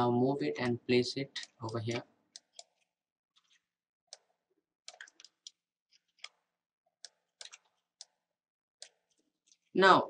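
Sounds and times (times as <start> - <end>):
computer mouse clicking: 0.6 - 8.2, 8.8 - 9.7.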